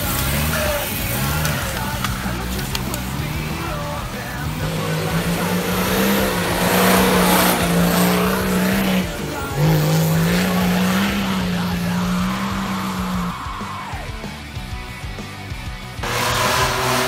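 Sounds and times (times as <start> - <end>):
engine revving hard: 0.0 - 14.8, 15.5 - 17.0.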